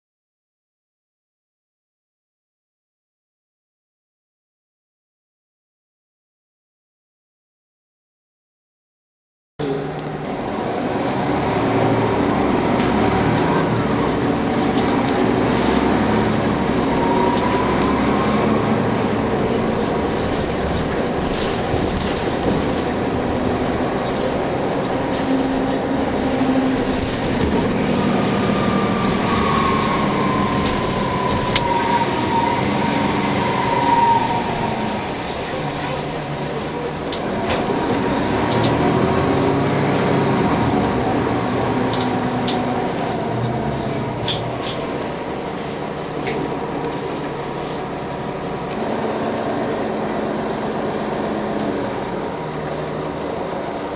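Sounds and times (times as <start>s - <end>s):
bus engine running: 9.6s - 53.9s.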